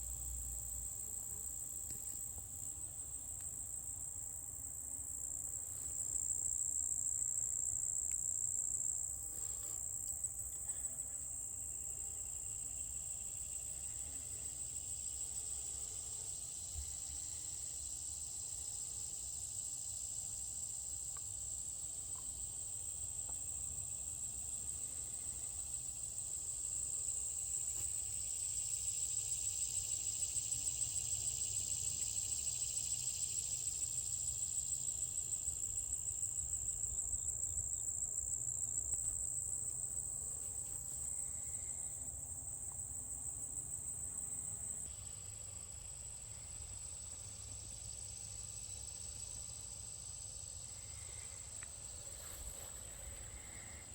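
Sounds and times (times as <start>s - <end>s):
insects trilling: 0.0s - 53.9s
lower-pitched insect trill: 0.0s - 53.9s.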